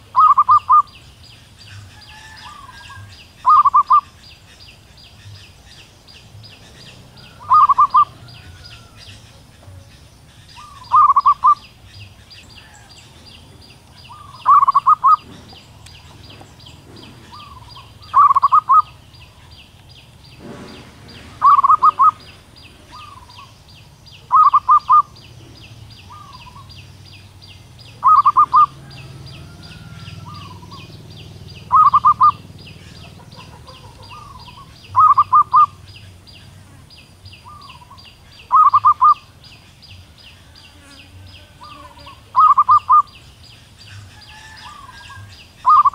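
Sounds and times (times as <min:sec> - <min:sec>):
dove calling staccato notes: 0:00.0 - 0:40.2, 0:41.6 - 0:45.9.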